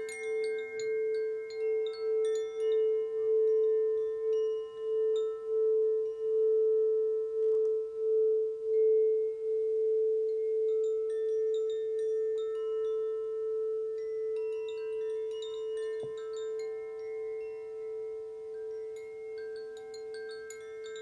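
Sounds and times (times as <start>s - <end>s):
crystal singing bowl ringing: 0.0s - 21.0s.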